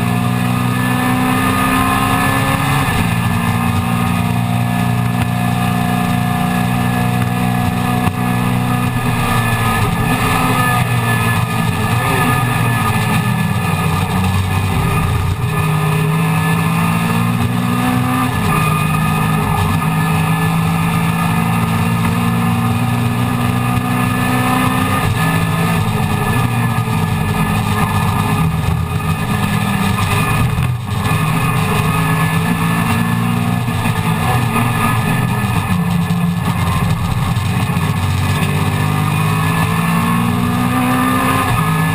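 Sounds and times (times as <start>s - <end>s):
race car engine revving: 0.0s - 41.9s
road and wind noise: 0.0s - 41.9s.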